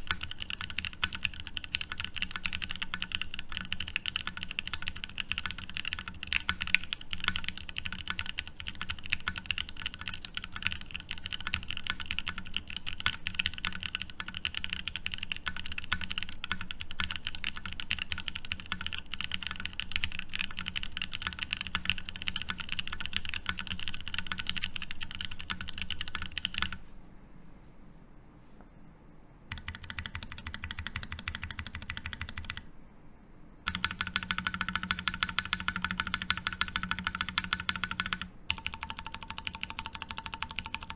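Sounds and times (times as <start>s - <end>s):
mechanical keyboard typing: 0.0s - 26.8s, 29.5s - 32.7s, 33.7s - 40.9s.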